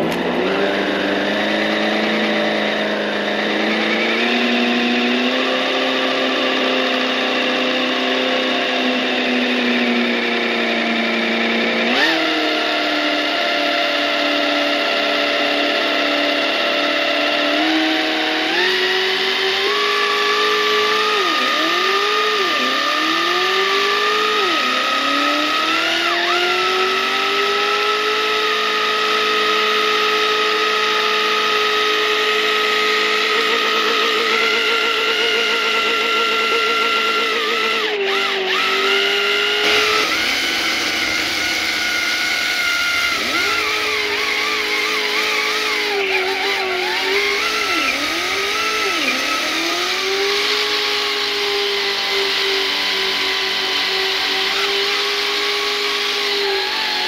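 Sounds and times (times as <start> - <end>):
model car motor revving high: 0.0 - 57.0.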